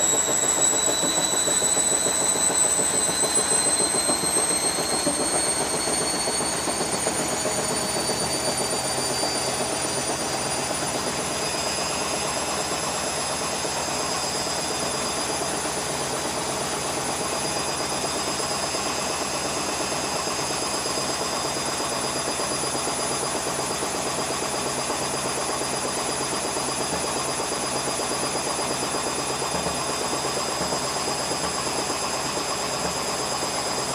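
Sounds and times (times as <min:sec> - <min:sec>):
washing machine spinning: 0:00.0 - 0:33.9.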